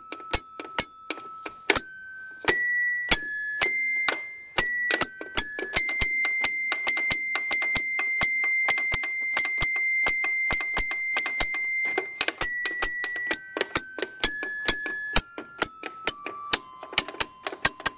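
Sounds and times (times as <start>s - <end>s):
toy piano notes: 0.0s - 17.9s.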